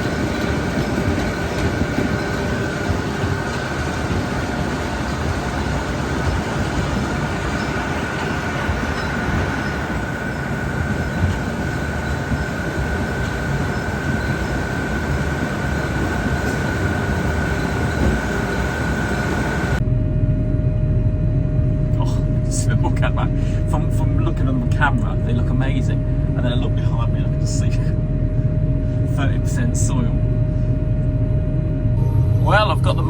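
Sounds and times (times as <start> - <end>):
constant high whine: 0.0 - 33.0
heavy engine rumble: 0.0 - 33.0.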